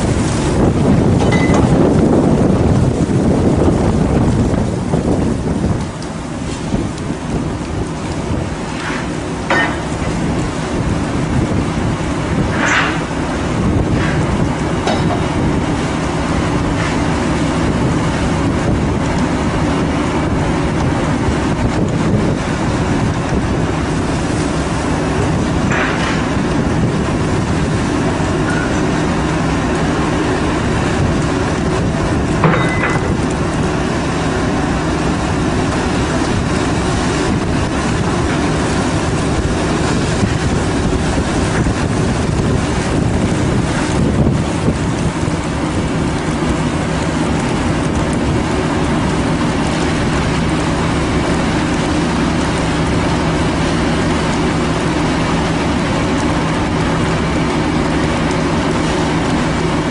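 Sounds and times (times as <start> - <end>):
boat engine humming: 0.0 - 59.9
water noise: 0.0 - 59.9
wind: 0.0 - 59.9.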